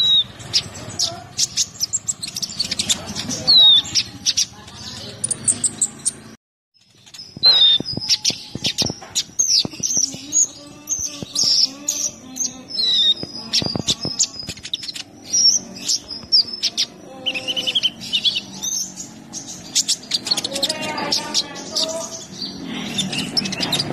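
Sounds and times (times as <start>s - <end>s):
sunbird singing: 0.0s - 23.9s.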